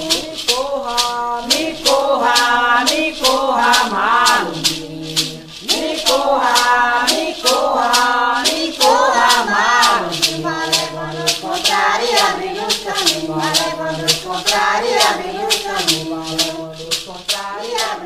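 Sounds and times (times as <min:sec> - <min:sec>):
person singing a chant: 0:00.0 - 0:18.0
rattle shaken in steady beat: 0:00.0 - 0:18.0.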